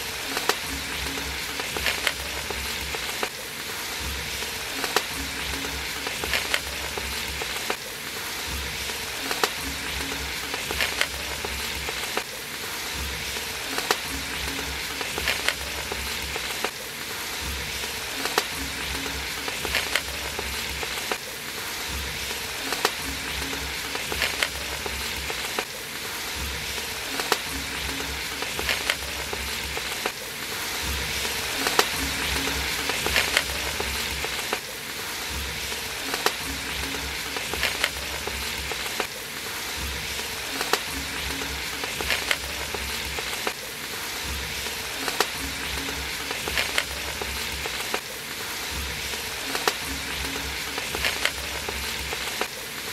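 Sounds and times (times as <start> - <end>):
food sizzling in hot oil: 0.0 - 52.9.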